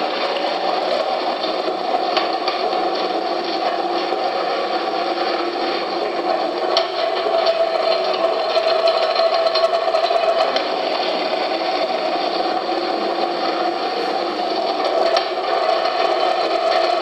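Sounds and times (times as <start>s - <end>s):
shredding mill running: 0.0s - 17.0s.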